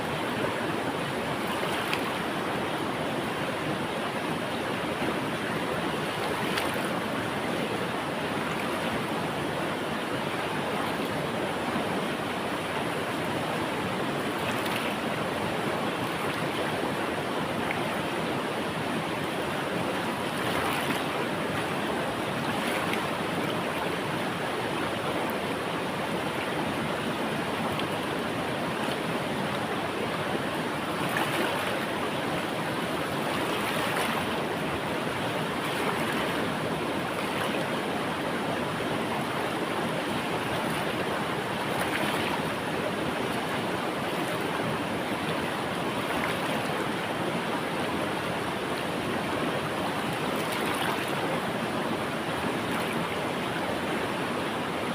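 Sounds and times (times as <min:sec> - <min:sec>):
river water rushing: 0:00.0 - 0:54.9
small water splashes: 0:01.4 - 0:03.2, 0:04.1 - 0:11.8, 0:12.8 - 0:48.0, 0:48.7 - 0:54.5.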